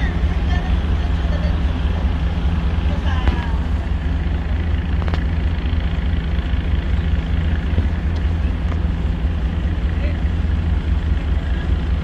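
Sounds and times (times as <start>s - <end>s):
motor vehicle engine drone: 0.0s - 12.0s.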